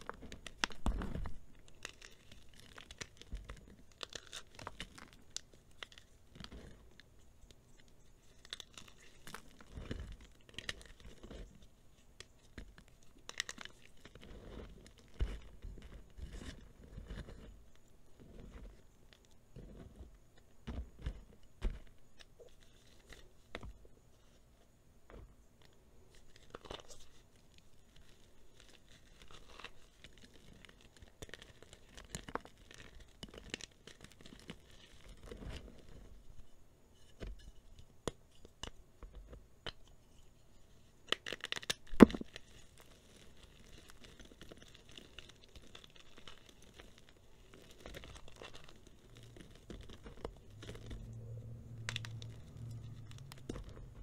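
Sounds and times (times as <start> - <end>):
chalk snapping and cracking: 0.0 - 23.8, 25.6 - 36.0, 41.0 - 54.0.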